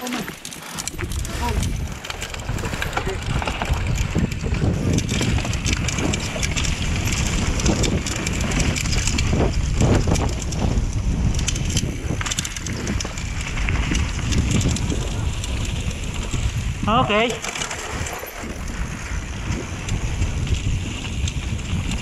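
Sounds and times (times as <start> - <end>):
bike clicks and rattles: 0.0 - 22.0
tyres rolling on dirt trail: 0.0 - 22.0
tyres rolling on wooden boardwalk: 0.0 - 22.0
wind buffeting microphone: 0.0 - 22.0.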